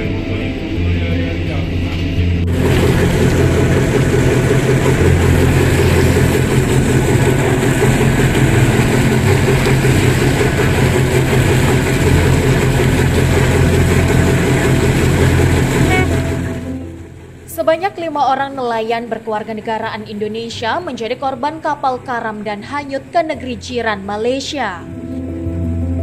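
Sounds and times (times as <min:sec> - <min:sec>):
boat engines droning: 0:00.0 - 0:26.0.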